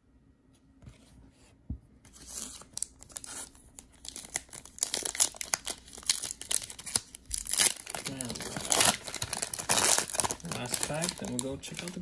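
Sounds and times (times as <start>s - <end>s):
foil wrapper crinkling and tearing: 2.2s - 12.0s.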